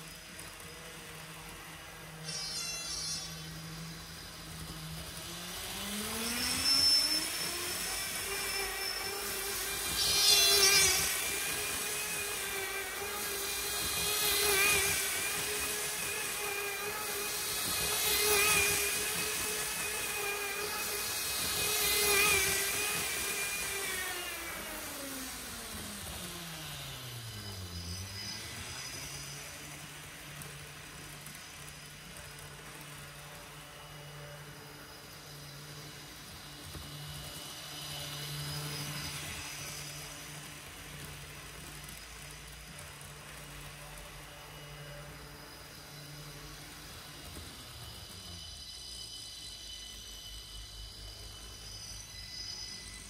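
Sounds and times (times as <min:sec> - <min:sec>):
electric motor whine from speaker: 0:00.0 - 0:53.0.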